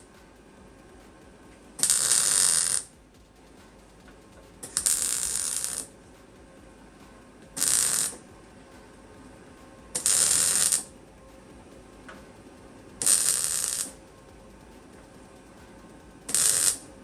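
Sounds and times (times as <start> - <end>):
welding crackle: 0.0 - 17.0.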